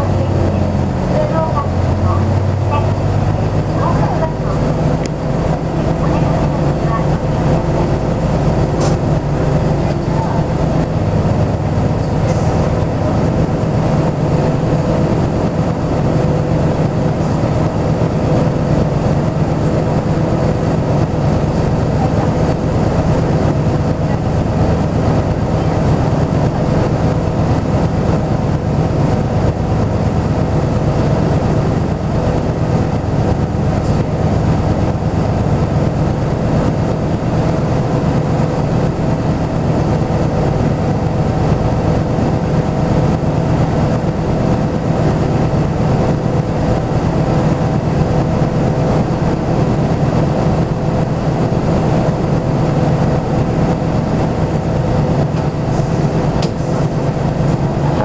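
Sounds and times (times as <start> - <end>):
bus diesel engine idling: 0.0 - 58.0.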